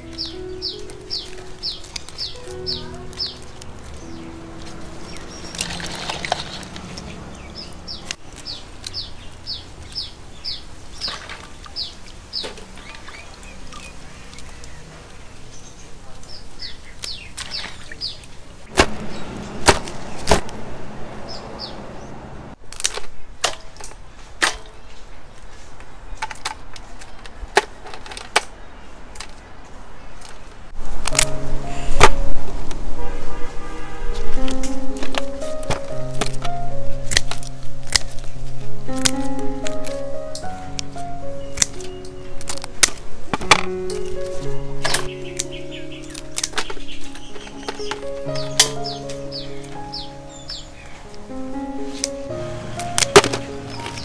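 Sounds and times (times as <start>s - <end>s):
bird chirping: 0.0s - 22.6s, 33.0s - 54.0s.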